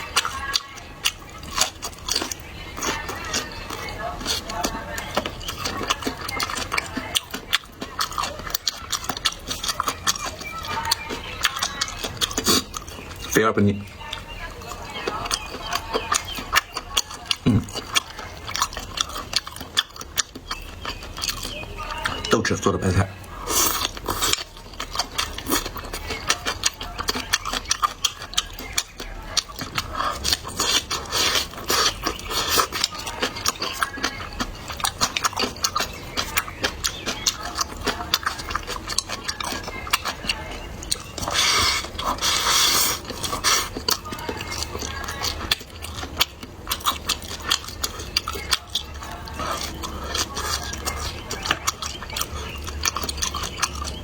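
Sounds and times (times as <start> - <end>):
wet chewing clicks and smacks: 0.0 - 54.0.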